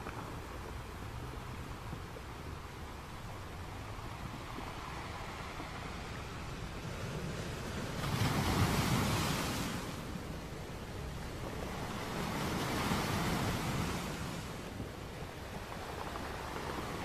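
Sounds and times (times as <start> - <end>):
waves washing onto beach: 0.0 - 17.0
wind noise: 0.0 - 17.0.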